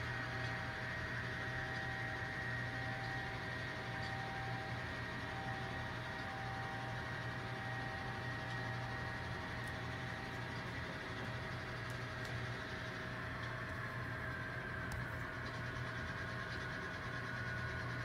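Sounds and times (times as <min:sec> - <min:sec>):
model train motor humming and whining: 0:00.0 - 0:18.0.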